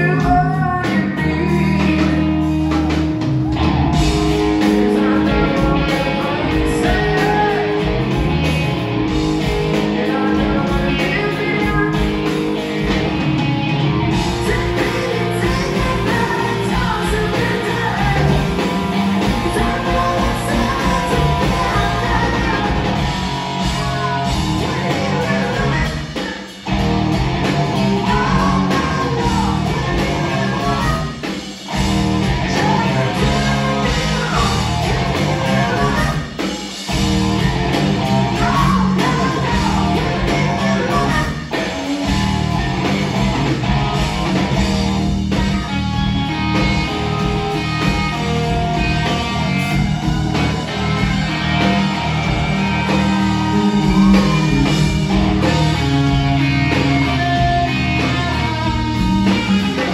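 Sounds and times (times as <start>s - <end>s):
man singing lead vocals: 0.0s - 3.1s, 4.2s - 8.6s, 9.6s - 12.9s, 14.1s - 26.7s, 27.7s - 31.3s, 32.3s - 36.6s, 38.0s - 42.3s, 46.4s - 59.9s
bass guitar: 0.0s - 59.9s
drums: 0.0s - 59.9s
electric guitar: 0.0s - 59.9s.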